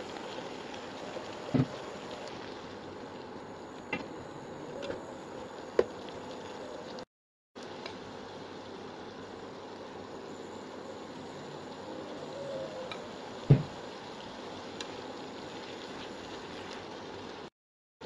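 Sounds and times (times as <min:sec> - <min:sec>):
mushrooms sizzling in frying pan: 0:00.0 - 0:07.0, 0:07.6 - 0:17.5.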